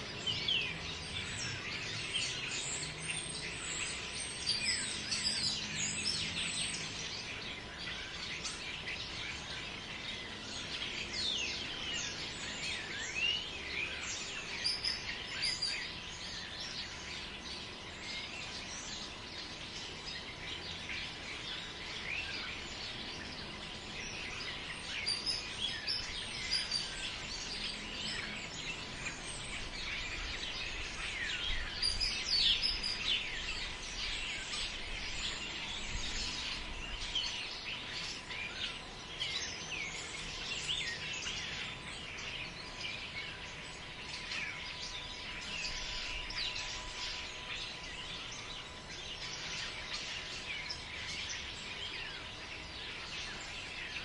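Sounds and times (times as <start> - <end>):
small birds chirping: 0.0 - 54.0
wind in trees: 0.0 - 54.0.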